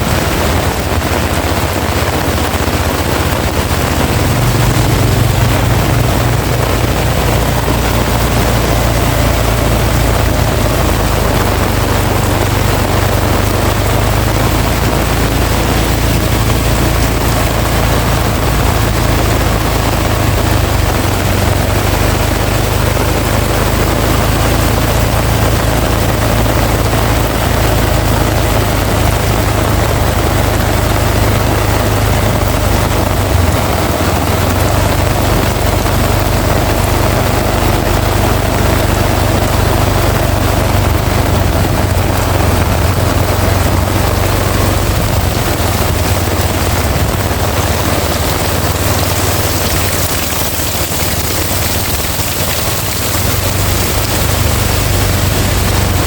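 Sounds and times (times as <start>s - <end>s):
heavy rain pouring: 0.0s - 56.0s
strong wind rumbling: 0.0s - 56.0s.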